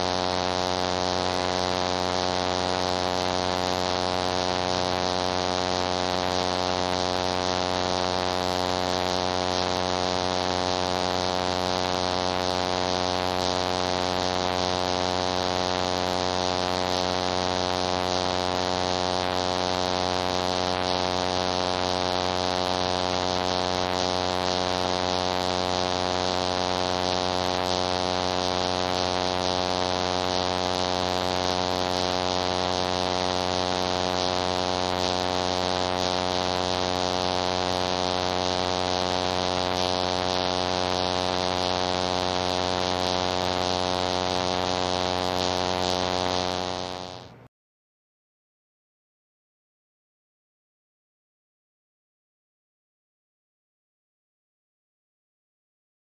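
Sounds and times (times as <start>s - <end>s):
power transformer humming: 0.0s - 47.5s.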